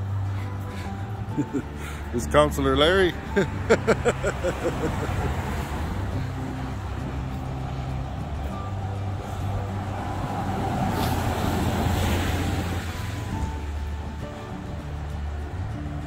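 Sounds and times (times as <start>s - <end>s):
tyre noise on wet road: 0.0s - 16.0s
vehicle engine hum: 0.0s - 16.0s.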